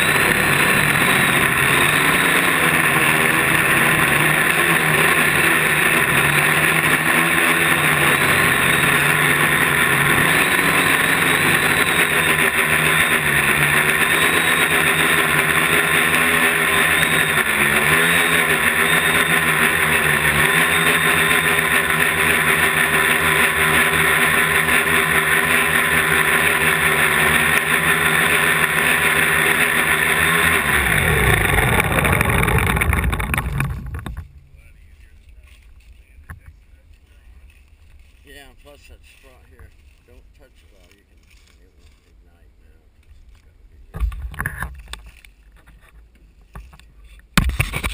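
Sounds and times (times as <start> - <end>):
quadcopter propellers whining: 0.0 - 39.2.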